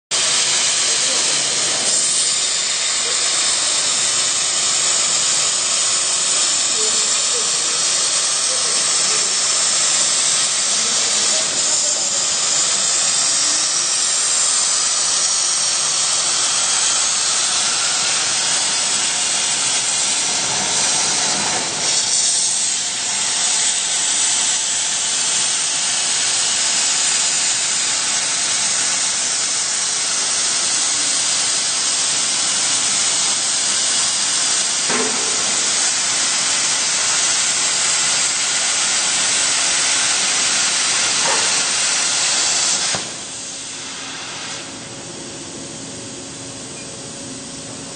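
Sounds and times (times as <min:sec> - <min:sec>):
plasma torch hissing: 0:00.2 - 0:47.8.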